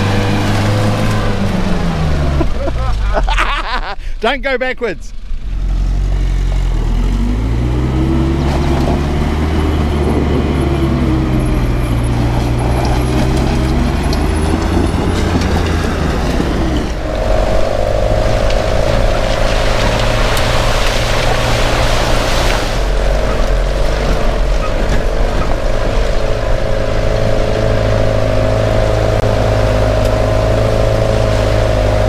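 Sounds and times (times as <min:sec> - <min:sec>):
engines revving under load: 0:00.0 - 0:04.2, 0:05.1 - 0:32.0
vehicle drone with hum: 0:00.0 - 0:32.0.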